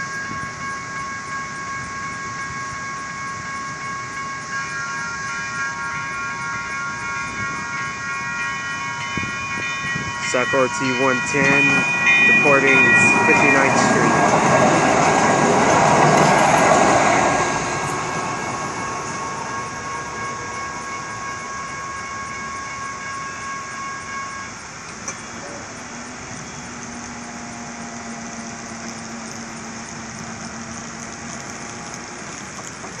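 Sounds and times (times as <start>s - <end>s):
crossing bell ringing: 0.0s - 33.0s
light rail train rolling past: 0.0s - 33.0s.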